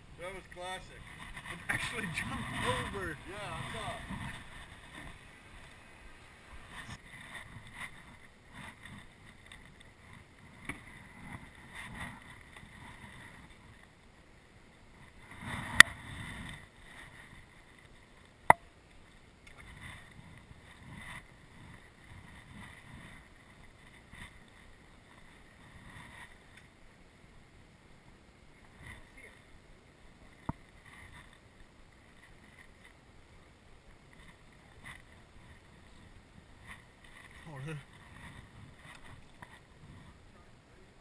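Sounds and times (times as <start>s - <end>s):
water sounds: 0.0s - 41.0s.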